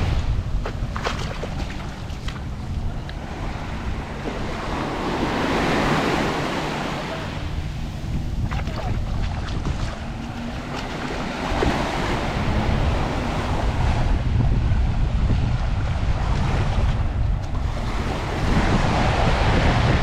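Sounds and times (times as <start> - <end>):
wind buffeting microphone: 0.0 - 20.0
surf washing onto beach: 3.2 - 20.0.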